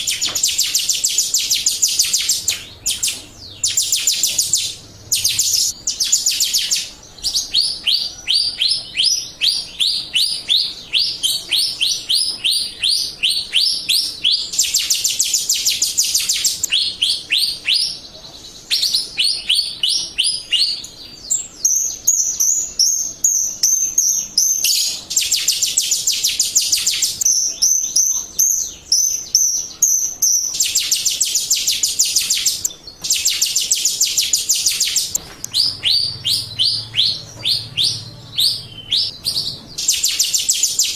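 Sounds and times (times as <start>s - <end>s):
bird singing high chirps: 0.0s - 40.9s
buzzy bird trilling: 0.0s - 40.9s.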